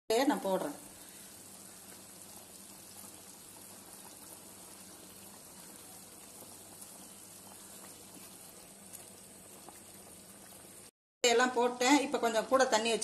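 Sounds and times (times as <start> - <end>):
gravy bubbling in a pot: 0.1 - 10.9.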